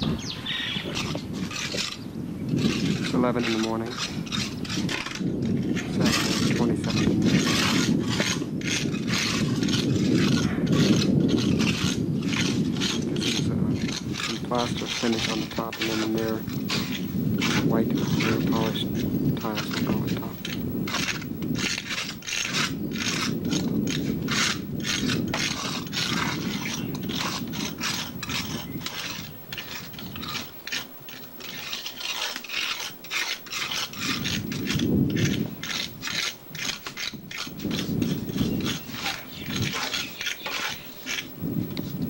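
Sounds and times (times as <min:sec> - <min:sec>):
trowels scraping plaster on stone: 0:00.8 - 0:42.0.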